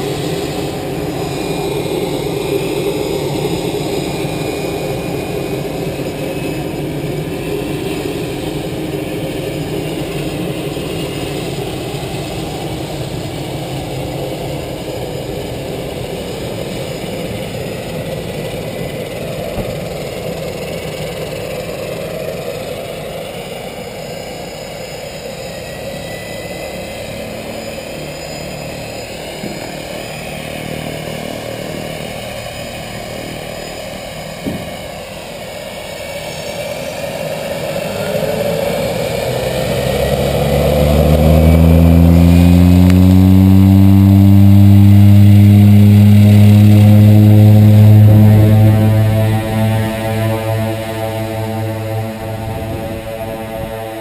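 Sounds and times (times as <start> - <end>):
turboprop engine and propeller drone: 0.0 - 54.0.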